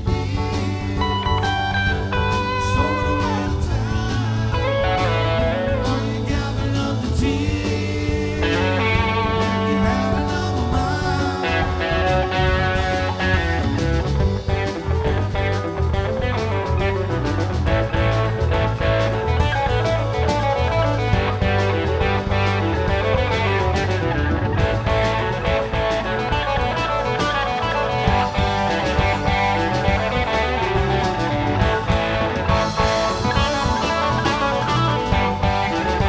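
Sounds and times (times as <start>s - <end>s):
electric guitar bending high notes: 0.0s - 36.0s
live rock band playing: 0.0s - 36.0s.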